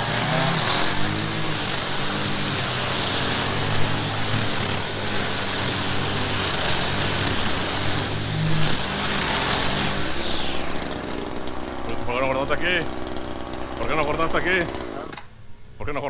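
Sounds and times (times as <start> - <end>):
string trimmer high whine: 0.0 - 15.8.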